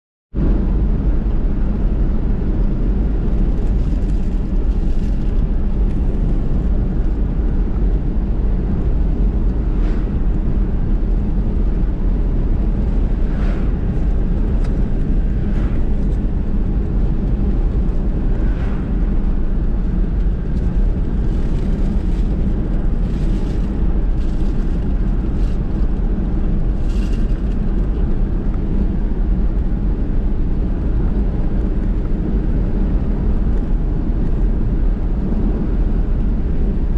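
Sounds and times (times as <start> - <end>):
car road and engine rumble: 0.3 - 36.9.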